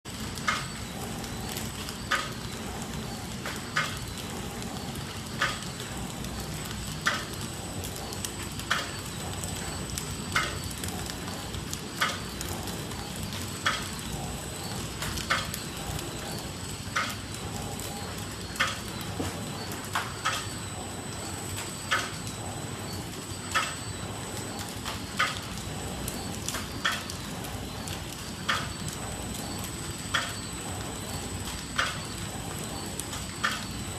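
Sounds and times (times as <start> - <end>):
high machine whine: 0.0 - 33.9
sharp machine clack: 0.1 - 33.9
wrapping machine running: 0.1 - 33.9.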